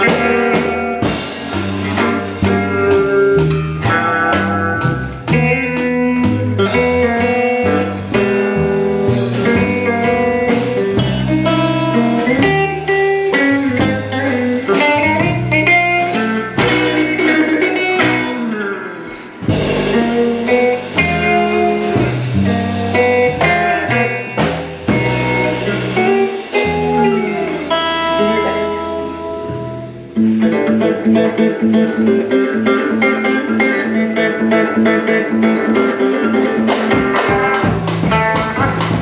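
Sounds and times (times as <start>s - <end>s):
drums: 0.0s - 39.0s
electric guitar playing: 0.0s - 39.0s
upright bass: 0.0s - 39.0s.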